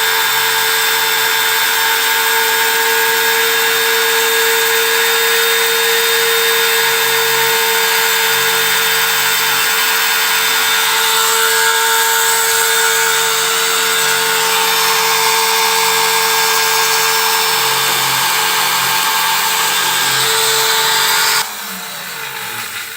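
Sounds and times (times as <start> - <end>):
router spindle whining: 0.0 - 22.9.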